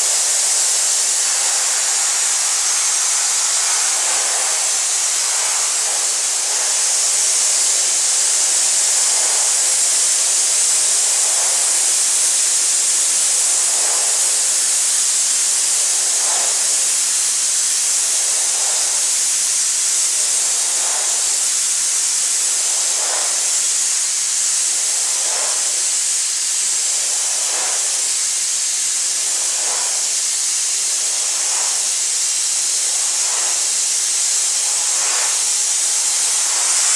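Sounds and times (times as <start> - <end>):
blasting nozzle hissing: 0.0 - 36.9.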